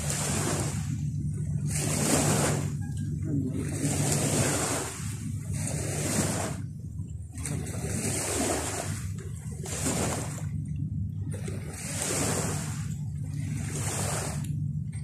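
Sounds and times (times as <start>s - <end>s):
low surf rumble: 0.0s - 15.0s
small waves breaking: 0.0s - 15.0s.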